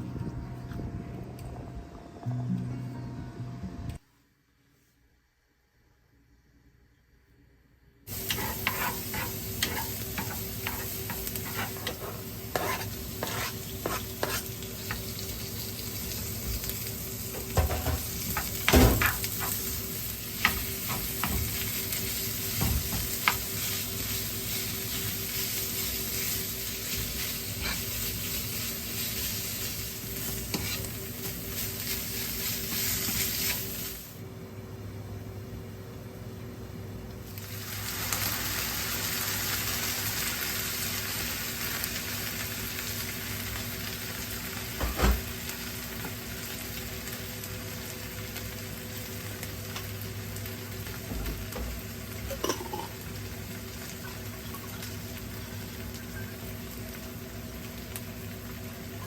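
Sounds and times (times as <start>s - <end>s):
food sizzling in a frying pan: 8.1s - 34.2s, 37.2s - 59.0s.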